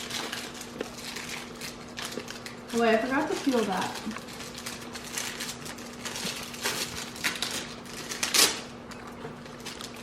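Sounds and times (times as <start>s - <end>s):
wrappers crinkling and crackling: 0.0s - 10.0s.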